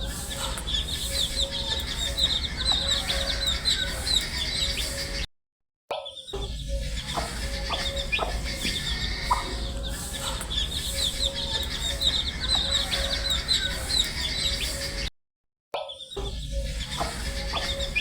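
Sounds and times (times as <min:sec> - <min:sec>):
baby chicks peeping: 0:00.0 - 0:05.2, 0:06.2 - 0:15.1, 0:16.1 - 0:18.0.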